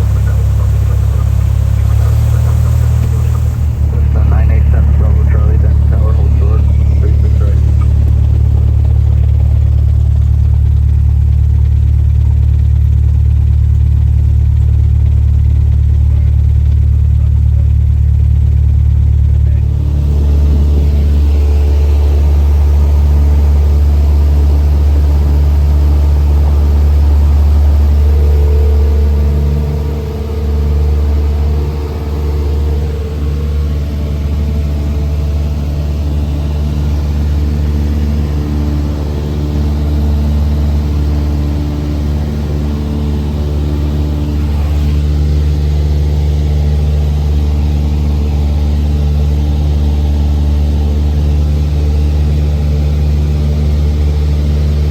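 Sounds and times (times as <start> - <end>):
airplane engine and propeller drone: 0.0 - 54.9.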